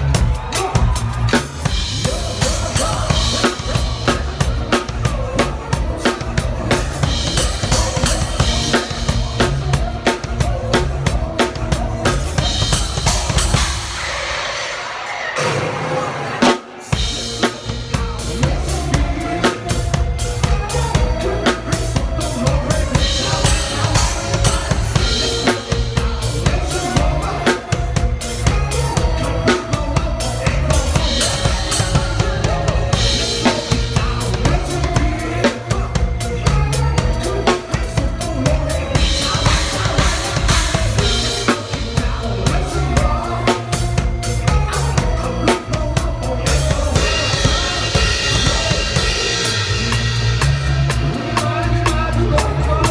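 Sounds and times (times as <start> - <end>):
drum kit playing pop groove: 0.0 - 15.1, 16.4 - 52.9
backing track music: 0.0 - 52.9.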